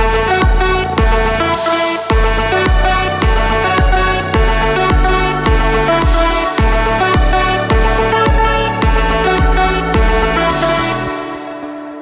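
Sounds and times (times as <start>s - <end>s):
deep kick drum: 0.0s - 11.2s
synth chords: 0.0s - 12.0s.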